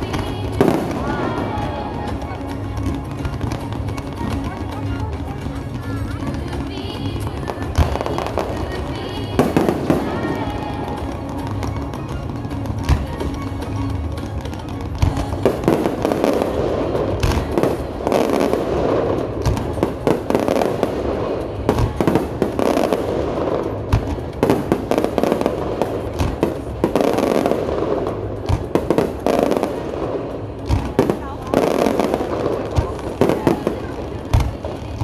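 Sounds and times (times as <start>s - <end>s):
continuous rushing din: 0.0s - 35.0s
fireworks bangs and launches: 0.0s - 35.0s.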